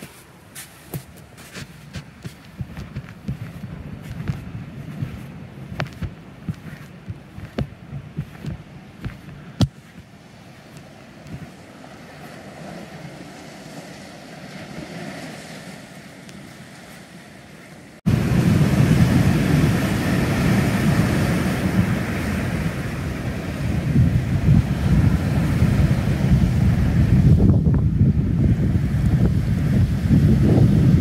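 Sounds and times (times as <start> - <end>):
waves breaking on beach: 0.0 - 31.0
wind buffeting microphone: 1.4 - 15.4, 18.1 - 31.0.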